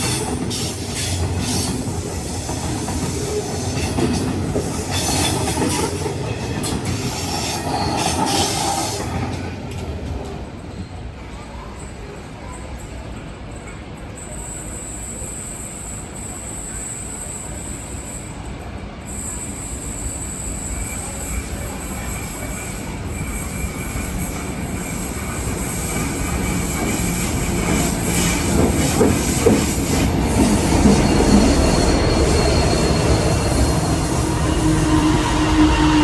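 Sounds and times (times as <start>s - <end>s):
steel wheels squealing: 0.0s - 9.4s, 13.5s - 36.0s
train running on rails: 0.0s - 36.0s.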